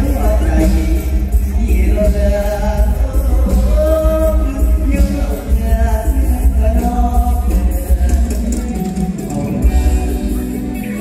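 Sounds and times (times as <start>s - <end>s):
amplified folk dance music: 0.0s - 11.0s.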